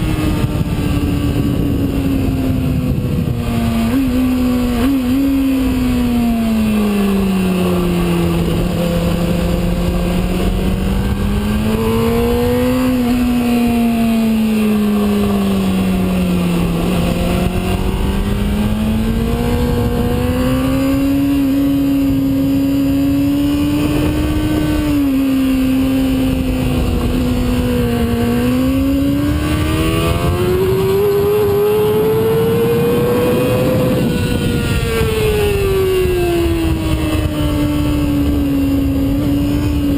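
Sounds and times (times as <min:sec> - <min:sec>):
motorcycle engine running hard: 0:00.0 - 0:39.9
wind noise: 0:00.0 - 0:39.9.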